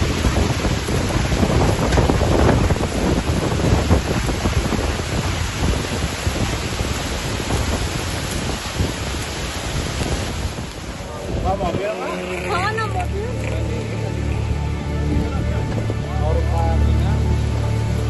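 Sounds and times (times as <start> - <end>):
storm wind buffeting microphone: 0.0 - 16.1
rain hissing: 0.0 - 18.0.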